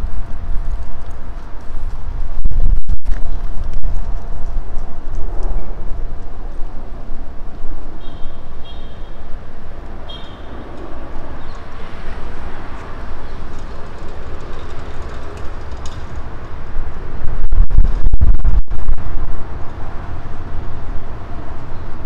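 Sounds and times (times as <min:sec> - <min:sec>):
wind buffeting microphone: 0:00.0 - 0:08.7, 0:09.3 - 0:22.0
city traffic noise: 0:00.0 - 0:22.0.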